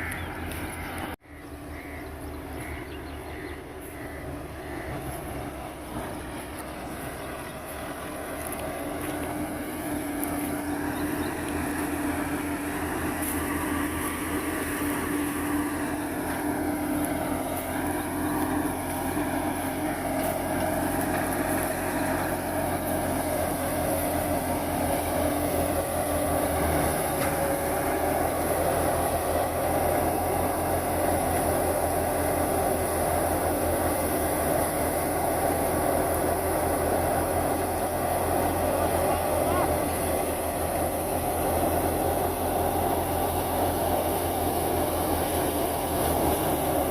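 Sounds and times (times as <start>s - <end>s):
thresher mechanical drone: 0.0s - 46.9s
tractor engine running: 0.0s - 46.9s.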